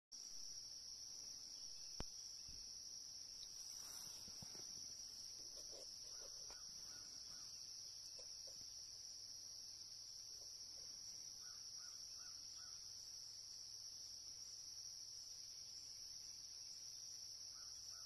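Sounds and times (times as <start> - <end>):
insect chorus drone: 0.2 - 18.0.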